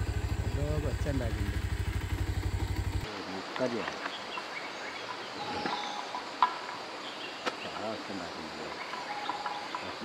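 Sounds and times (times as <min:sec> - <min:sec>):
insects and crickets chirring: 0:00.0 - 0:10.0.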